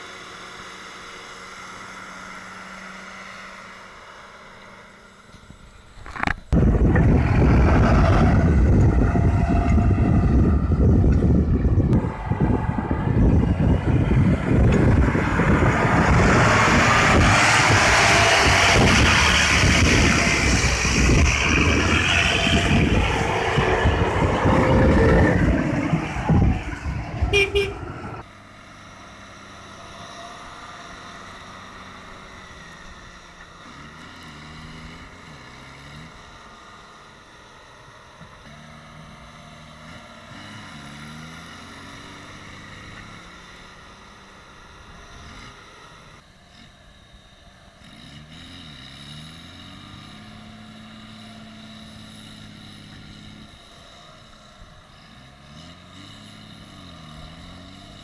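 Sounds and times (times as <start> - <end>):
close tractor engine: 0.0 - 58.0
distant tractor engines straining: 0.0 - 58.0.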